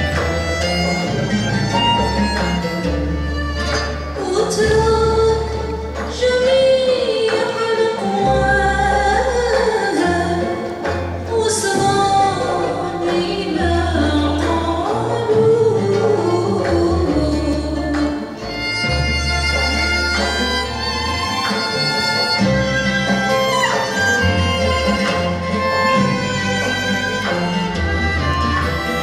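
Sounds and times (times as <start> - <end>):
instrumental backing with bass: 0.0 - 29.0.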